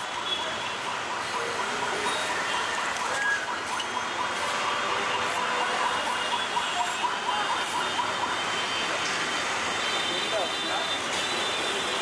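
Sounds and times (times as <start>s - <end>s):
traffic din: 0.0s - 12.0s.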